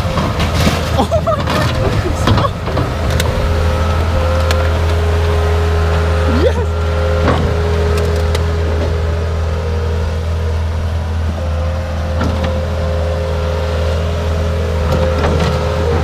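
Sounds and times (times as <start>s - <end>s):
engine whine: 0.0s - 16.0s
loader engine running: 0.0s - 16.0s.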